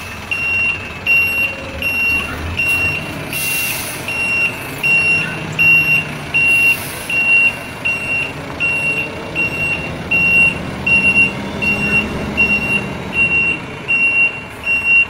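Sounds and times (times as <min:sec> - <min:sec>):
heavy truck engines running: 0:00.0 - 0:15.0
truck backup alarm beeping: 0:00.0 - 0:15.0.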